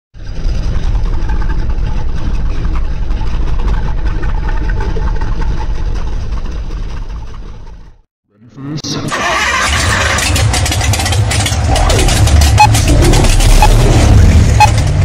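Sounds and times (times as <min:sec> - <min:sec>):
car engine deep rumble: 0:00.1 - 0:08.1, 0:09.5 - 0:15.0.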